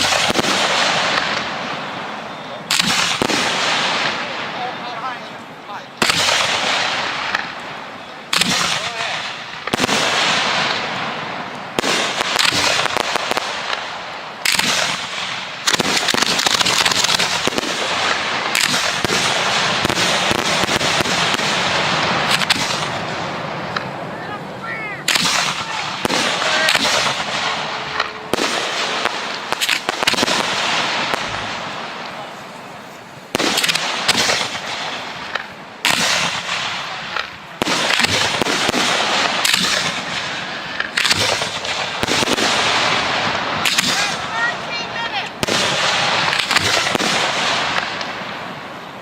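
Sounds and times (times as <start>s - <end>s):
fireworks bangs: 0.0s - 49.0s
fireworks crackling: 0.0s - 49.0s
fireworks whistles: 0.0s - 49.0s.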